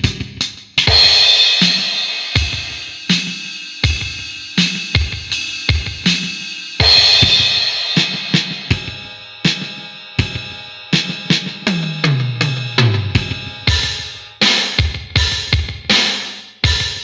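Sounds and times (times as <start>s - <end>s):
electronic kick and snare: 0.0s - 17.0s.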